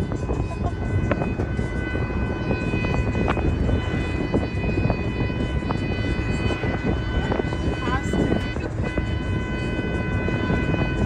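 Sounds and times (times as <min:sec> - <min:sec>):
car horn long blast: 0:00.0 - 0:11.0
road and engine rumble: 0:00.0 - 0:11.0.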